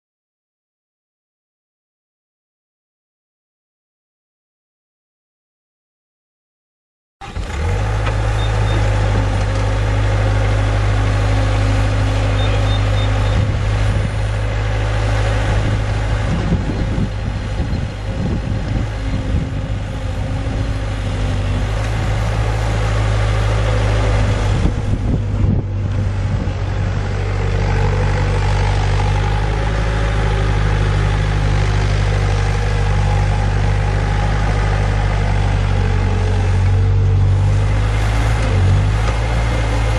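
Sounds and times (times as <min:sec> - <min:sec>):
diesel engine running: 0:07.2 - 0:39.9.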